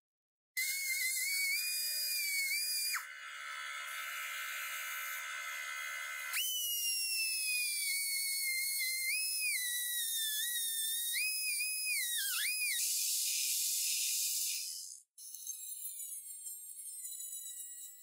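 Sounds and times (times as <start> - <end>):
rotary tool whining: 0.6 - 15.5.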